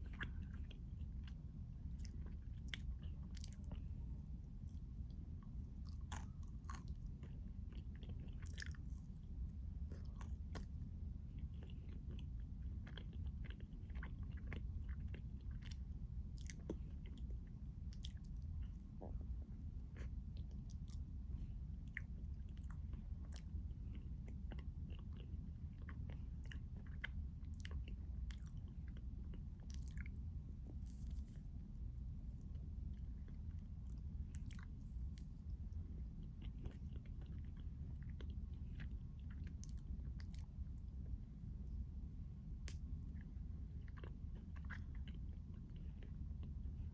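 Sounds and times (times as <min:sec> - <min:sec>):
chewing and biting: 0:00.0 - 0:41.8, 0:42.6 - 0:46.9
steady low hum: 0:00.0 - 0:46.9.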